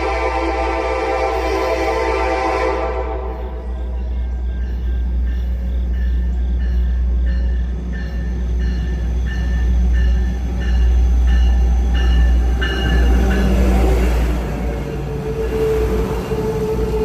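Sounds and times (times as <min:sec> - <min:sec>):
diesel locomotive rumble: 0:00.0 - 0:17.0
rail and wheel noise: 0:00.0 - 0:17.0.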